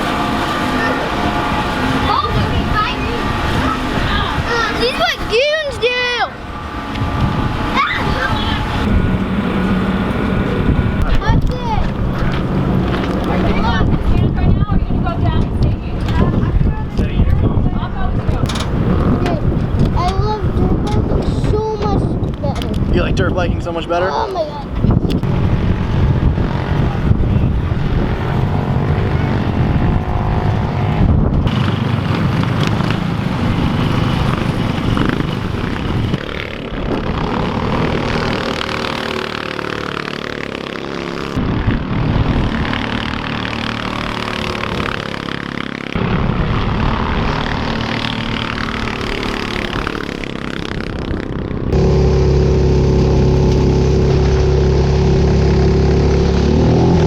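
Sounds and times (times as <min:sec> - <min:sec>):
loud low drone: 0:00.0 - 0:57.0
vehicle engines revving: 0:00.0 - 0:57.0.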